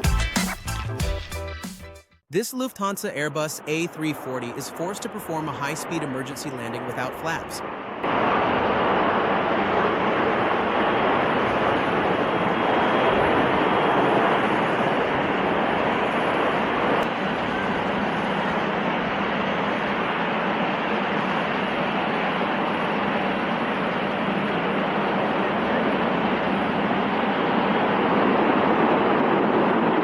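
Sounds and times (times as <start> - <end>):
jet plane landing: 2.4 - 30.0.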